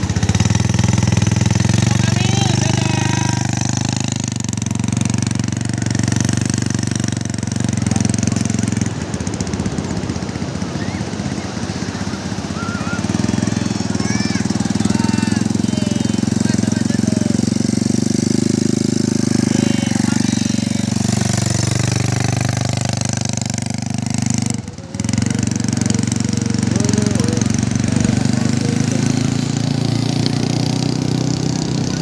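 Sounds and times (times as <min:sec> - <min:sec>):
small atv engine rattling: 0:00.0 - 0:32.0.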